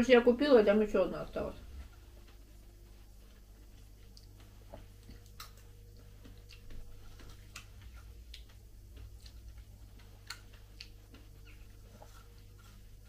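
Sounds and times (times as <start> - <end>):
soft chewing: 1.6 - 13.0.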